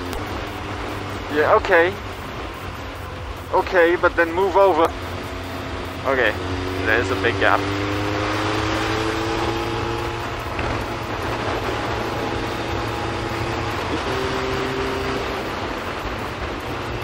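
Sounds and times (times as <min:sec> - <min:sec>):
motorcycle engine cruising: 0:00.0 - 0:17.0
tyre noise on wet road: 0:00.0 - 0:17.0.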